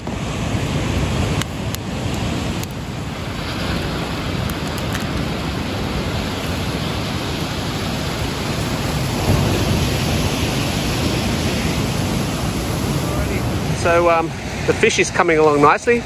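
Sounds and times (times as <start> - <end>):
surf on beach: 0.0 - 16.0
wind: 0.0 - 16.0
wind buffeting microphone: 0.0 - 16.0.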